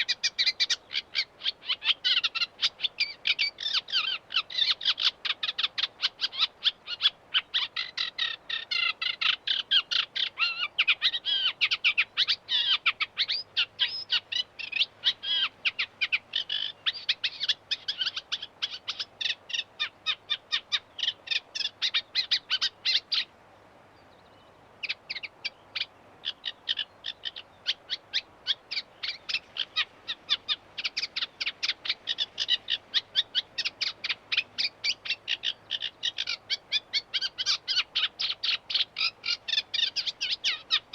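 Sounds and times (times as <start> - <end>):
reed warbler singing: 0.0 - 40.9.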